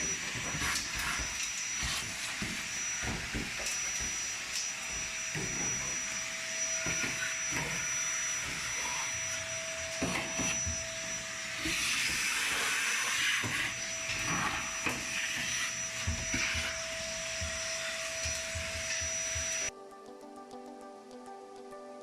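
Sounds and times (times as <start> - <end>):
vacuum cleaner running: 0.0 - 19.7.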